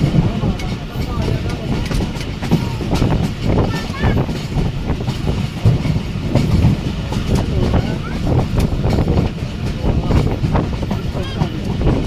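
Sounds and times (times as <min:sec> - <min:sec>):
train rumbling: 0:00.0 - 0:12.0
wheels clattering over rail joints: 0:00.0 - 0:12.0.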